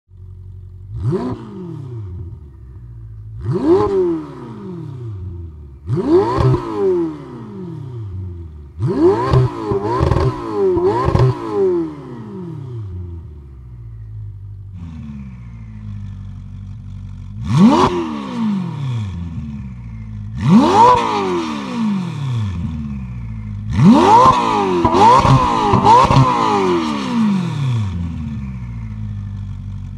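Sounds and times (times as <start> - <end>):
car engine idling and revving: 0.1 - 29.9.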